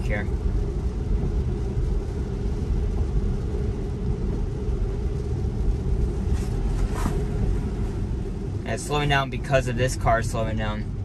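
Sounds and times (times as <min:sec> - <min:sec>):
tyre and road noise on wet road: 0:00.0 - 0:11.0.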